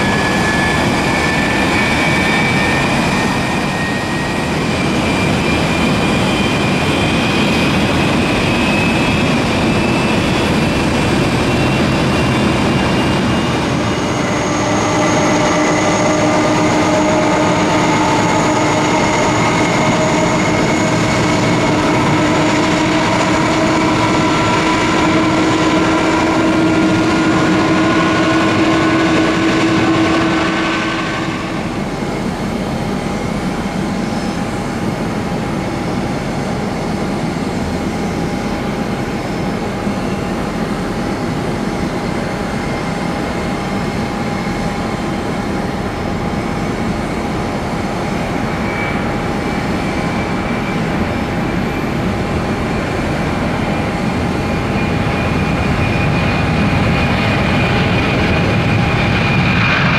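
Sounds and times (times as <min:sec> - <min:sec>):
jet engine rumble: 0:00.0 - 0:59.9
jet engine whine: 0:00.0 - 0:59.9.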